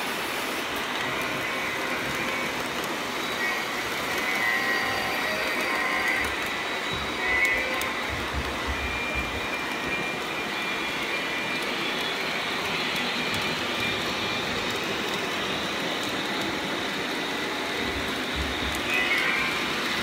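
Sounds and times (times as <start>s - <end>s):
high motor whine: 0.6s - 20.0s
model train rolling rumble: 0.6s - 20.0s.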